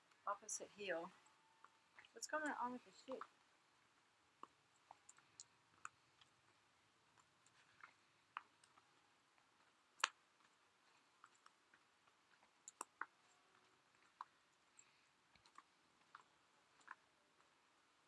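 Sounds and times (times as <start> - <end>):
faint clicks and ticks: 0.0 - 18.0.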